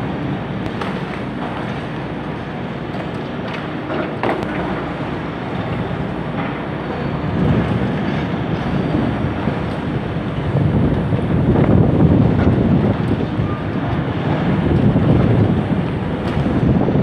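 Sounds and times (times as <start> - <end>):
demolition excavator machine noise: 0.0 - 17.0
wind rumble on microphone: 0.0 - 17.0.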